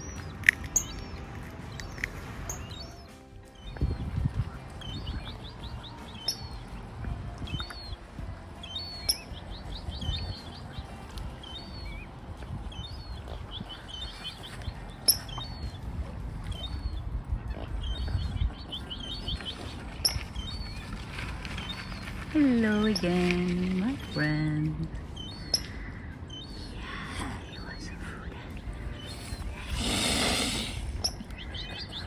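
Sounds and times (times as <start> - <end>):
low rumble: 0.0 - 29.9
birds chirping and chattering: 0.0 - 32.0.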